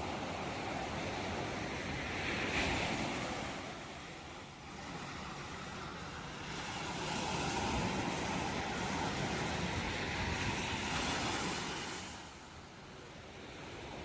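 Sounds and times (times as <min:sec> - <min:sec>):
ocean surf wave: 0:00.0 - 0:14.0.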